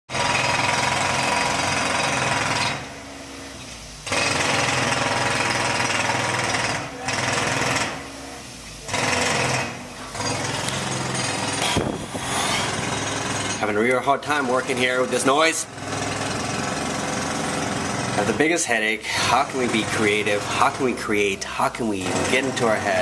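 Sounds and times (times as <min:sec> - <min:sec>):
jackhammer pounding floor: 0:00.1 - 0:03.0, 0:04.0 - 0:08.1, 0:08.8 - 0:23.0.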